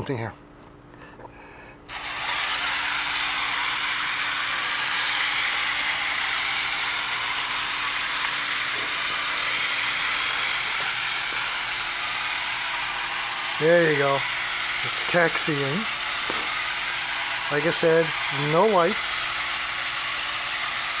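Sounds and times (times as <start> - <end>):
toy motor whirring: 1.9 - 21.0.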